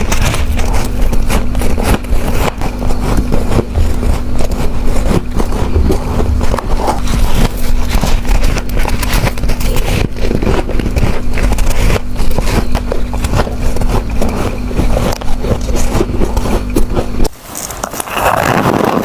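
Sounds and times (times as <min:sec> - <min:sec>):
chewing crunchy frost: 0:00.0 - 0:19.0
steady low hum: 0:00.0 - 0:19.0.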